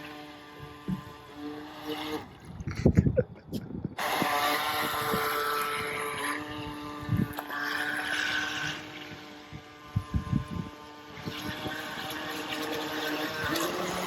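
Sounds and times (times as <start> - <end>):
small electric motor whirring: 0.0 - 3.0, 3.8 - 14.0.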